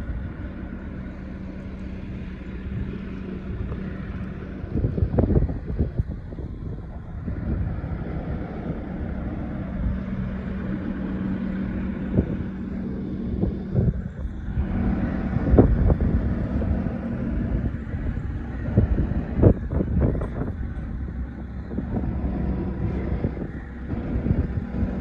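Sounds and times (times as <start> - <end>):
excavator diesel engine idling: 0.0 - 25.0
wind buffeting microphone: 0.0 - 25.0.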